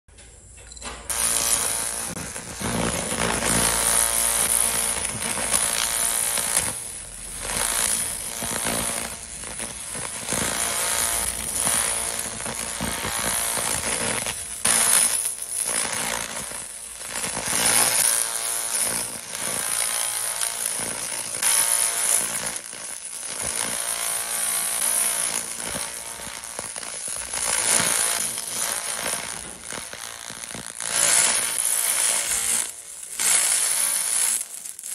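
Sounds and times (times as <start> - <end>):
laser cleaner crackling buzz: 1.1 - 34.9.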